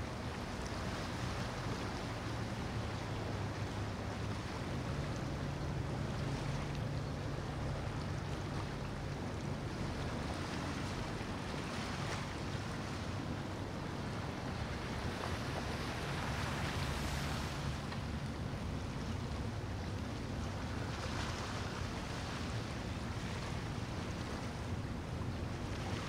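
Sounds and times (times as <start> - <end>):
boat engine hum: 0.0 - 26.0
water lapping: 0.0 - 26.0
wind: 0.0 - 26.0.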